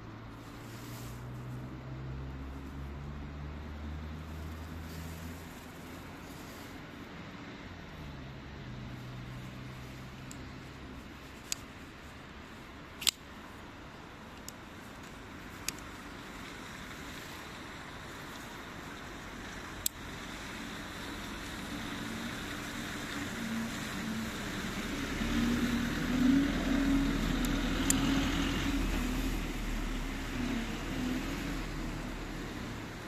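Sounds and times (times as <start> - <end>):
vehicle engine rumble passing: 0.0 - 12.7, 15.1 - 33.0
background noise: 0.0 - 33.0.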